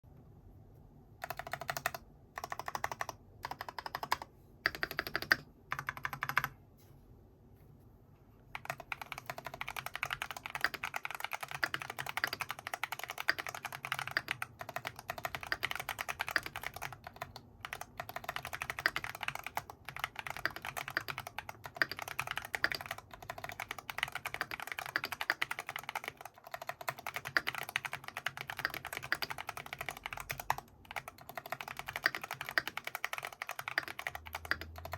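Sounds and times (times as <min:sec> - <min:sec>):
mechanical keyboard typing: 0:01.2 - 0:06.6, 0:08.5 - 0:34.9.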